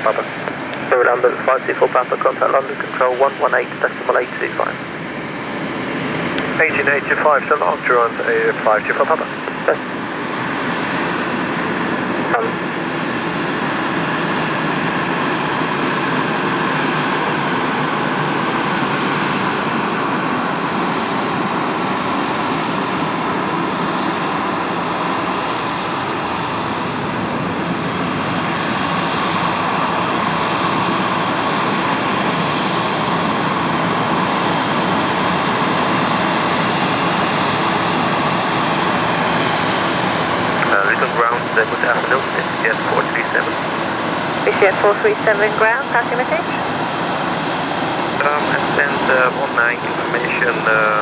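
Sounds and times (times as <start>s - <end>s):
jet engines running with whine: 0.0s - 51.0s.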